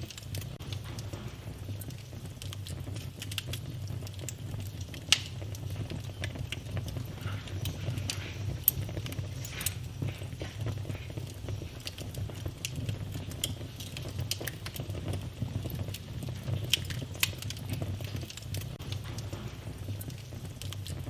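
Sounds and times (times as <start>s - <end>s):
wood fire crackling: 0.0s - 21.0s
steady low rumble: 0.1s - 14.5s, 18.6s - 21.0s.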